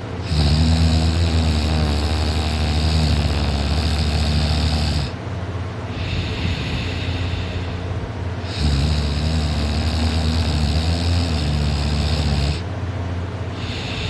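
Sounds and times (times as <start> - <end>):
person snoring: 0.2 - 5.2, 5.9 - 7.8, 8.4 - 12.6, 13.5 - 14.0.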